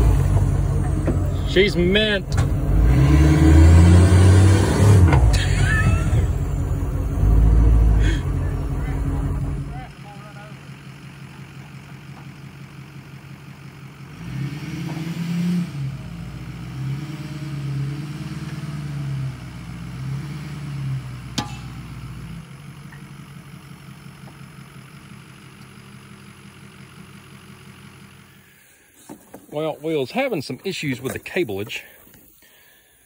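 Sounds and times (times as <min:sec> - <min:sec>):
pickup truck engine humming: 0:00.0 - 0:32.8.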